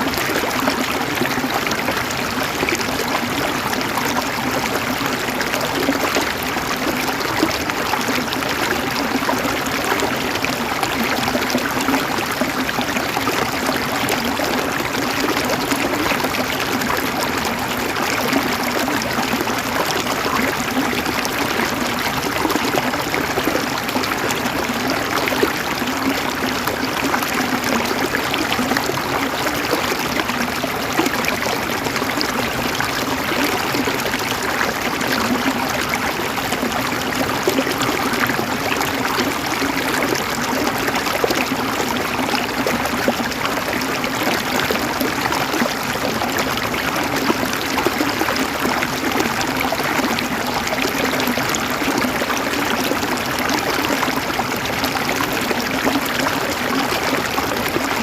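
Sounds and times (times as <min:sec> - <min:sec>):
river water gurgling over rocks: 0:00.0 - 0:58.0.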